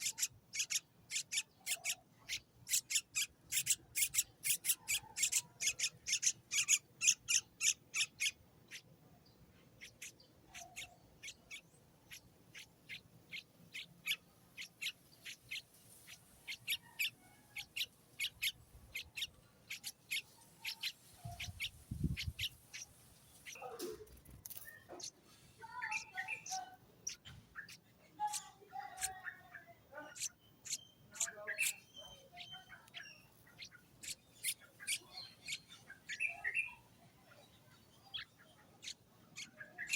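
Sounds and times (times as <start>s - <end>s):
young bird chirping: 0.0s - 9.0s, 9.7s - 23.7s, 24.6s - 39.9s.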